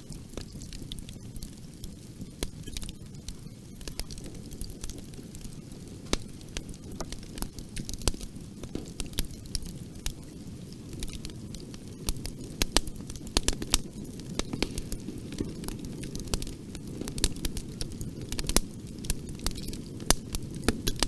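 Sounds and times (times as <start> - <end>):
wood fire in fireplace: 0.0 - 21.0.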